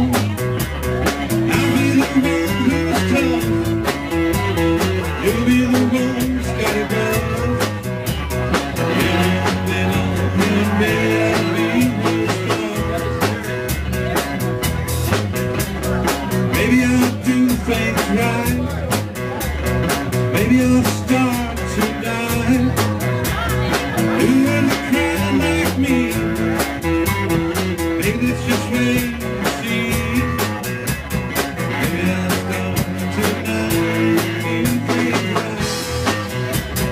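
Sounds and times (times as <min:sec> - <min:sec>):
person singing: 0:00.0 - 0:14.3, 0:15.9 - 0:19.4, 0:20.2 - 0:30.8, 0:31.6 - 0:36.9
electric guitars: 0:00.0 - 0:36.9
steady drum beat: 0:00.0 - 0:36.9.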